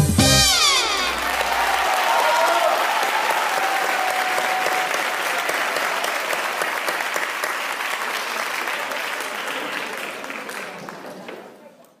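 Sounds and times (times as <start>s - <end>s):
audience applauding: 0.6s - 11.8s.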